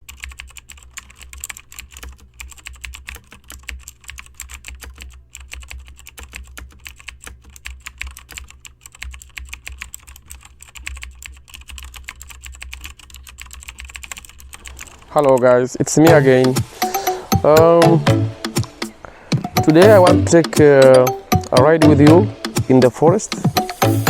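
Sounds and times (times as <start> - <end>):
rapid irregular clicking: 0.0 - 24.0.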